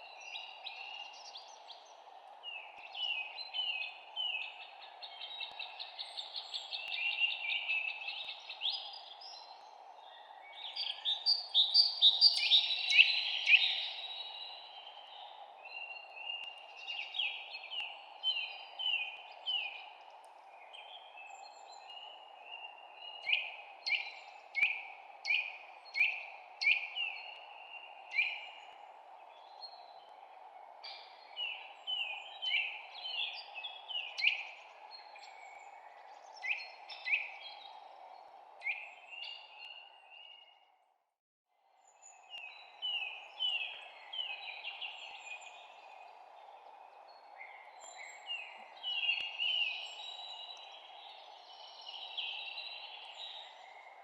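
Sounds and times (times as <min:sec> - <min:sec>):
small birds chirping: 0:00.0 - 0:40.6, 0:41.9 - 0:54.0.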